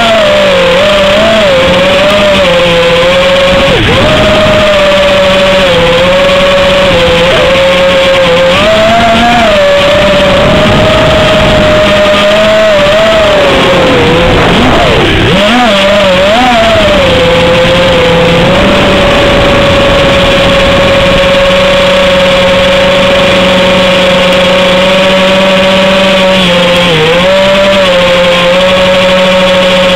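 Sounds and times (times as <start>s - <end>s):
drone motors whining: 0.0s - 29.9s.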